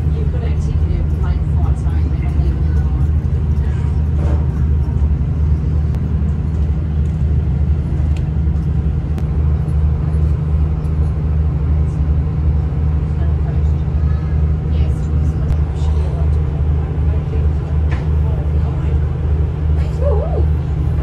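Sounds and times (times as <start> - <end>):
train rumble inside carriage: 0.0 - 21.0.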